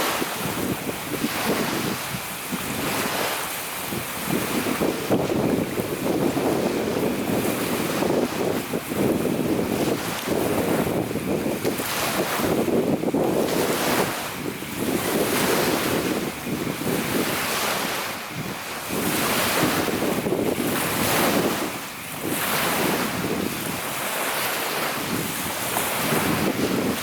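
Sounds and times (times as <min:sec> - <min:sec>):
lake waves washing onto shore: 0:00.0 - 0:27.0
strong wind buffeting microphone: 0:00.0 - 0:27.0.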